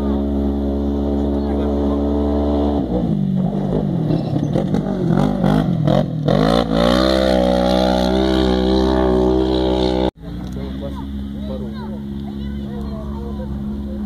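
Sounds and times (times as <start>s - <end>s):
rally buggy engine revving: 0.0s - 14.0s.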